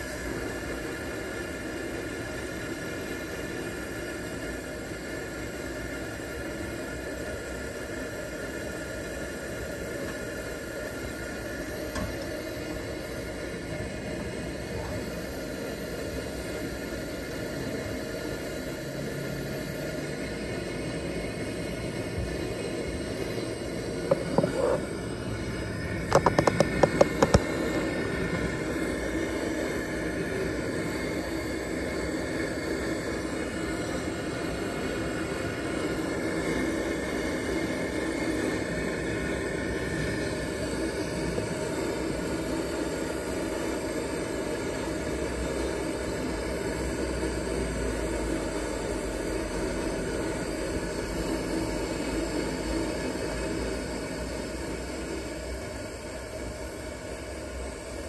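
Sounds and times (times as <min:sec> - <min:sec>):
camp stove flame hissing: 0:00.0 - 0:58.0.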